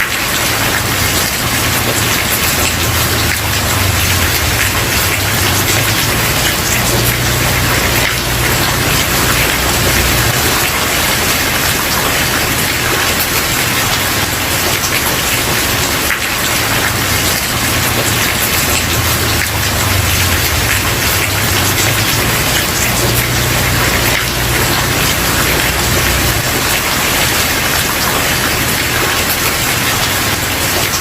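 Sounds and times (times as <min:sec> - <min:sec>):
rain on a wooden porch: 0:00.0 - 0:31.0.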